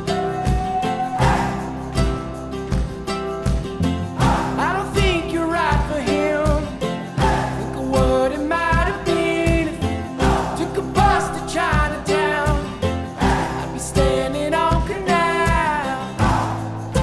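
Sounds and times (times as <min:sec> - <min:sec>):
song with vocal and guitar: 0:00.0 - 0:17.0.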